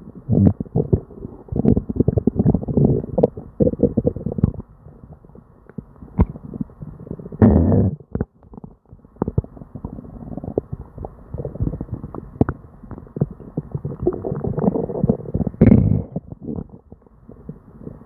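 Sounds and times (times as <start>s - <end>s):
stomach gurgling: 0.0s - 18.0s.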